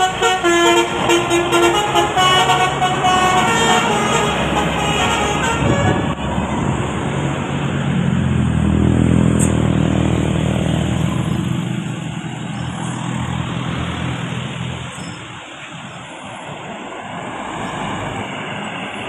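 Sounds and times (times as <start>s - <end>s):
bus passing by: 0.0s - 19.0s
road noise: 0.0s - 19.0s.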